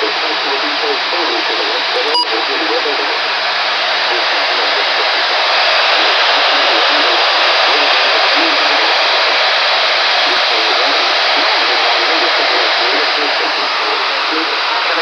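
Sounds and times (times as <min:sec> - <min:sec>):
faint garbled voice: 0:00.0 - 0:15.0
radio static hiss: 0:00.0 - 0:15.0.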